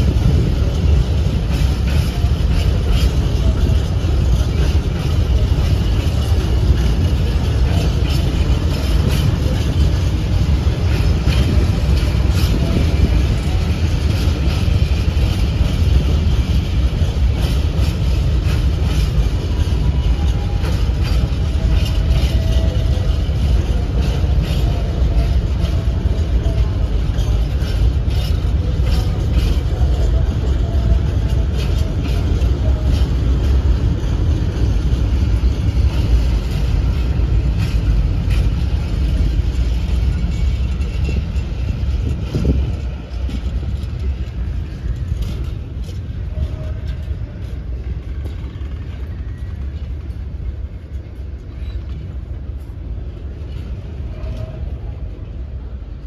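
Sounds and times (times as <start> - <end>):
train wheels rumbling on rail: 0.0 - 56.0
wheels clicking and clacking: 0.0 - 56.0.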